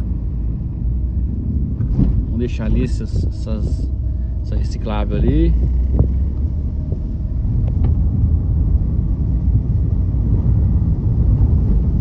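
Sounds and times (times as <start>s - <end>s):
car rumble heard from inside: 0.0s - 12.0s.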